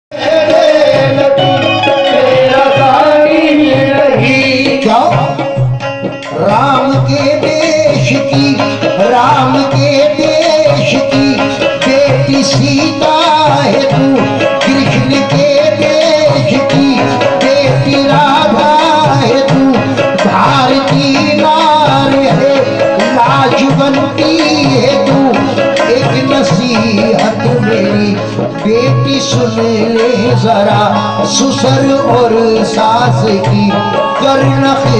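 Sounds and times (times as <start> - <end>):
hand drum rhythm: 0.1 - 34.9
harmonium: 0.1 - 34.9
man singing: 0.1 - 34.9
tabla strokes: 0.1 - 34.9.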